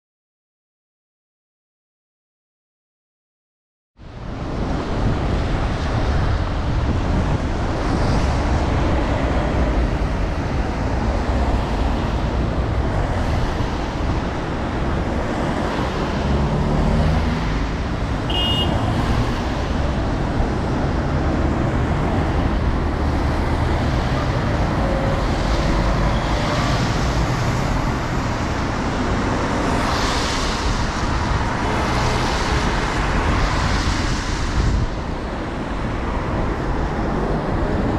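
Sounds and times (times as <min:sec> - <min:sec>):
traffic passing: 0:04.0 - 0:37.9
tyres hissing on wet road: 0:04.2 - 0:37.9.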